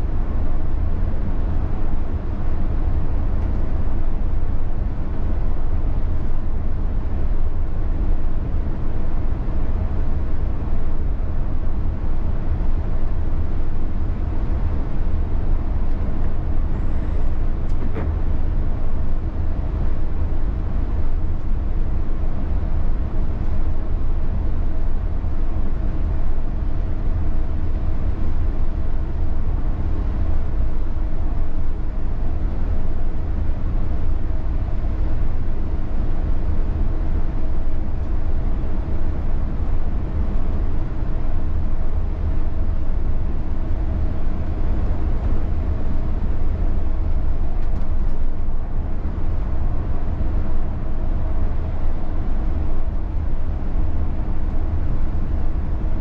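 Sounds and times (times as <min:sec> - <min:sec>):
coach engine and road rumble: 0:00.0 - 0:56.0.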